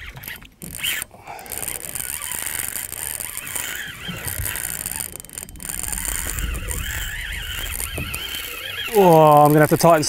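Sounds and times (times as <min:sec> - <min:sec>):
fishing reel drag whining: 0:00.0 - 0:10.0.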